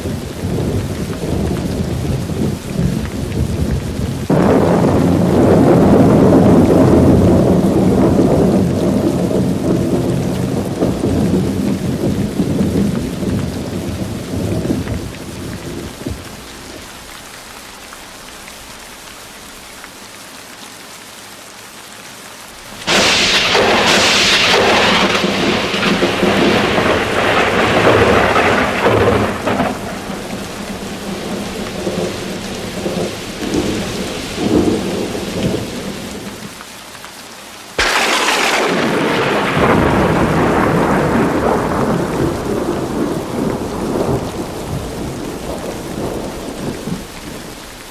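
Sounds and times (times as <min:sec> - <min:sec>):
thunder rumbling: 0:00.0 - 0:17.1, 0:22.6 - 0:36.6, 0:37.8 - 0:47.9
steady rain: 0:00.0 - 0:47.9.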